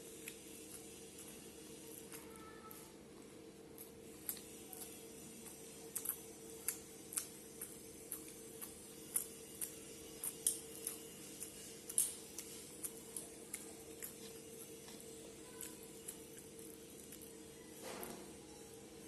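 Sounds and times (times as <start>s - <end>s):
wet chewing sounds: 0.0s - 2.3s, 3.6s - 18.2s
faint steady hum: 0.0s - 19.0s.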